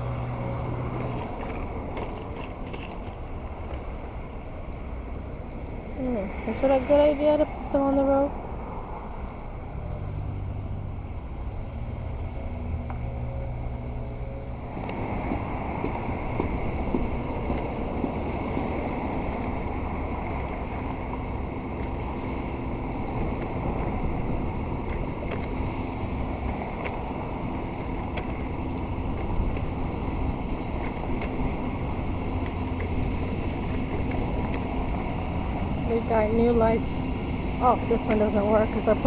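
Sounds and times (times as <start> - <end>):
street traffic rumble: 0.0 - 39.0.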